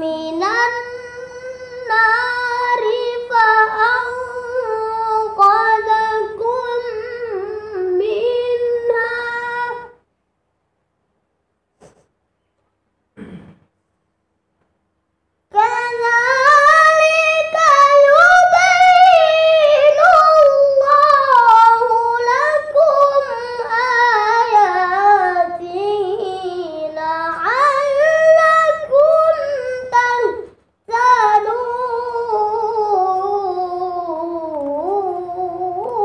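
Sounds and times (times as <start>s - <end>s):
boy reciting melodically: 0.0s - 10.0s, 15.5s - 36.0s.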